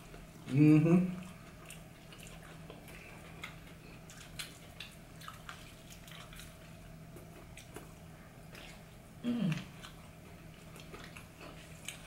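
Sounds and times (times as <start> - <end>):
people chewing: 0.0 - 12.0
steady low hum: 0.0 - 12.0.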